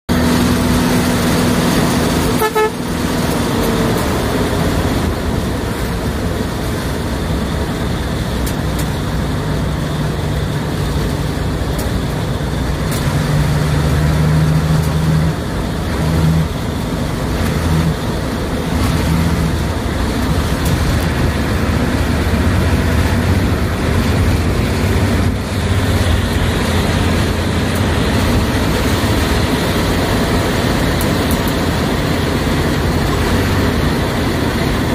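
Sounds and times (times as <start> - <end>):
road noise: 0.0 - 34.9
bus engine running: 0.1 - 34.9.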